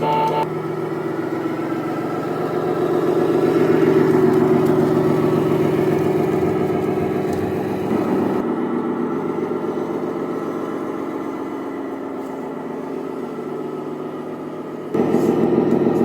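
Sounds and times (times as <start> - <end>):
simulated diesel engine idling: 0.0 - 16.0.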